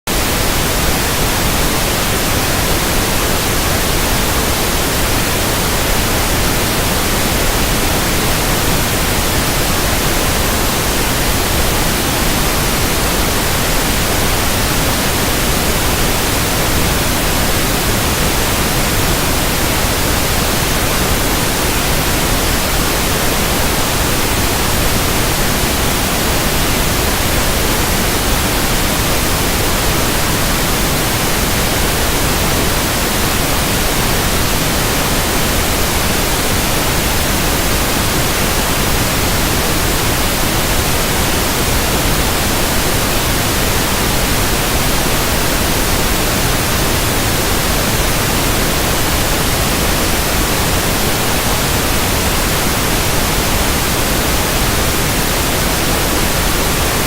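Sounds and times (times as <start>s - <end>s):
pink noise hiss: 0.1s - 57.0s.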